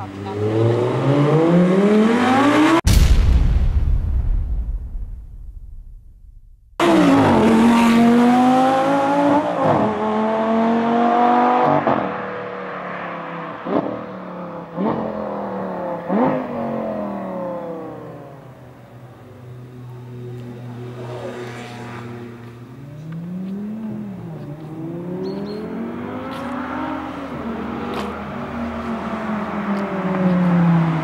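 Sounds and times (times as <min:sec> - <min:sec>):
sports car accelerating hard: 0:00.0 - 0:02.8, 0:06.8 - 0:18.7, 0:20.4 - 0:31.0.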